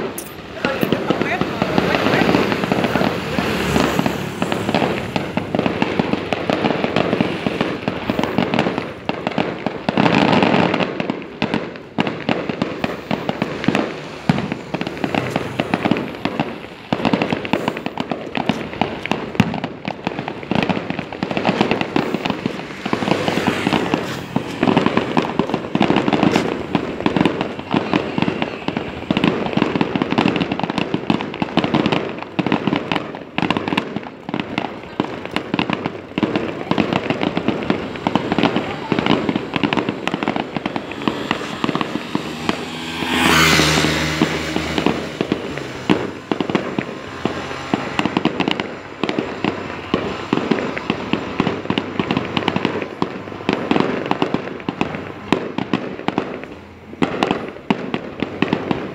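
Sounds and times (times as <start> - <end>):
fireworks banging and crackling: 0.0 - 58.9.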